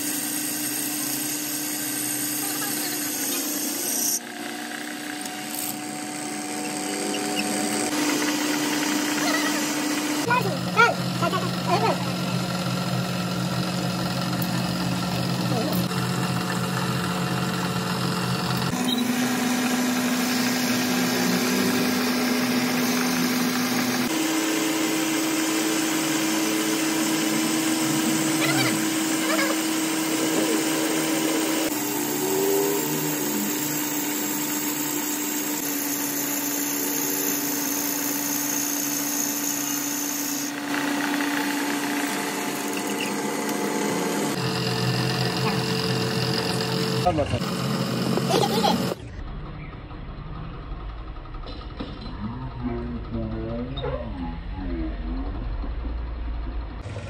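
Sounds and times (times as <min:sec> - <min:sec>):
metal lathe motor hum: 0:00.0 - 0:49.0
lathe machining noise: 0:00.0 - 0:49.1.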